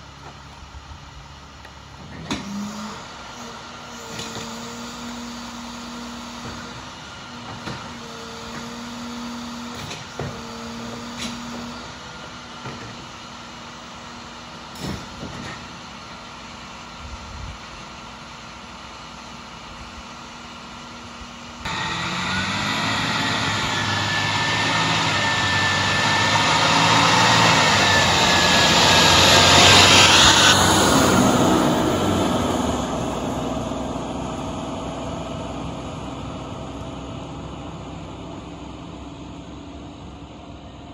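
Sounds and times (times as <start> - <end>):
diesel garbage truck engine: 0.0 - 40.9
hydraulics whining: 0.0 - 40.9.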